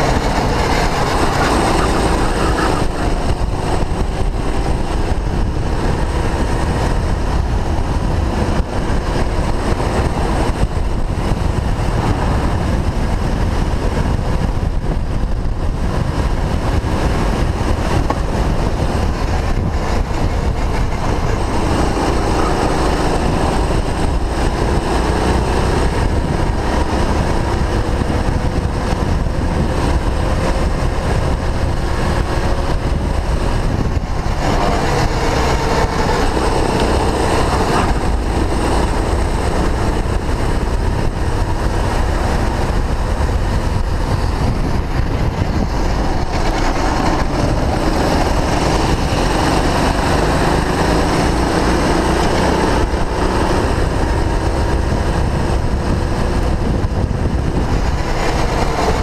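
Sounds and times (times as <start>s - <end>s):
go-kart engine revving: 0.0s - 59.0s
wind rumble on microphone: 0.0s - 59.0s.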